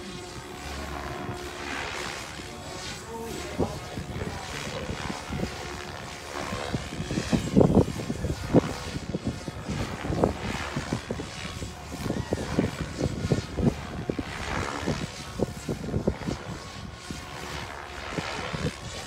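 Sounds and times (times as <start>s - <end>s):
rc helicopter rotor whine: 0.0s - 19.0s
wind buffeting microphone: 0.0s - 19.0s.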